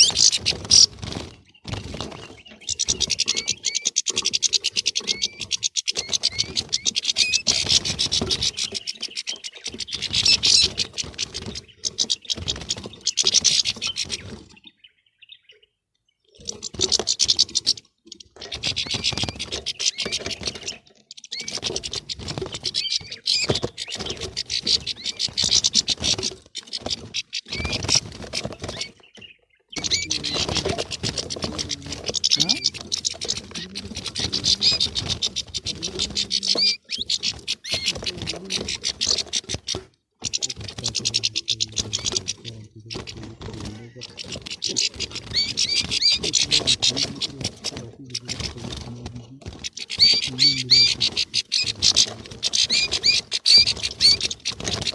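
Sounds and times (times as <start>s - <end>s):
finches twittering: 0.0s - 54.9s.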